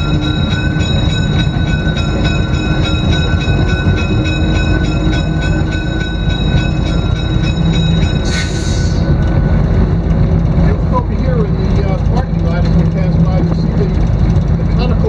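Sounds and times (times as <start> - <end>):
locomotive diesel engines running: 0.0 - 15.0.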